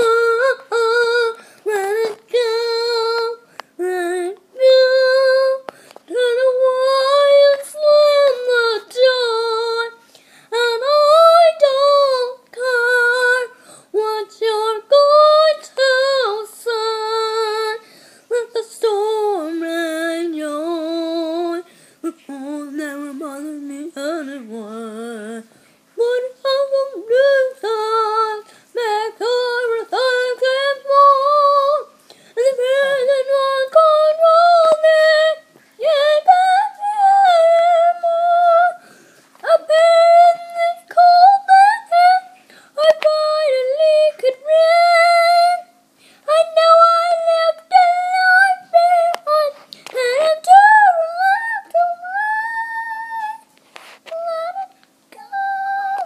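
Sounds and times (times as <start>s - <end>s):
girl singing with vibrato: 0.0s - 56.0s.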